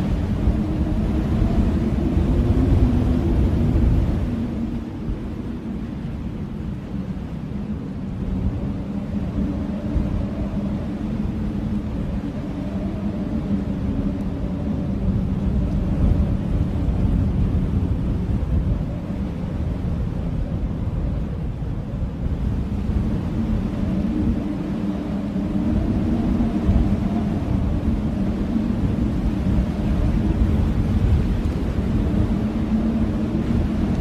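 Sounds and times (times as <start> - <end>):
blizzard wind howling: 0.0 - 34.0.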